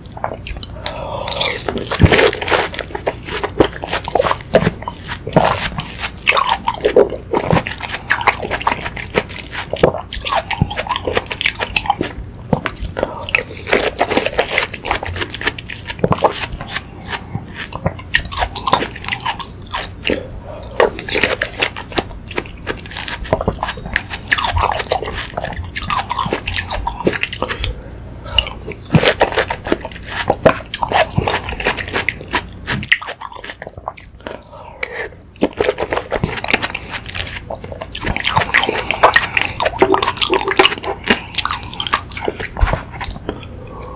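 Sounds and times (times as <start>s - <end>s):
crunchy wet chewing: 0.0s - 43.9s.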